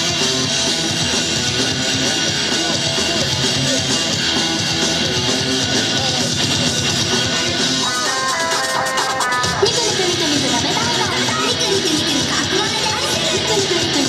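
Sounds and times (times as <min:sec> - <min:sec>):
upbeat pop-rock music: 0:00.0 - 0:14.0.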